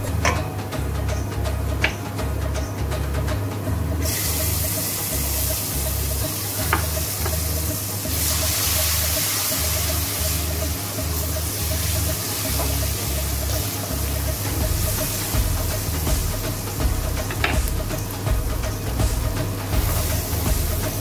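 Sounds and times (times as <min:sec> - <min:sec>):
background music with bass beat: 0:00.0 - 0:21.0
sizzling and bubbling in oil: 0:00.0 - 0:21.0.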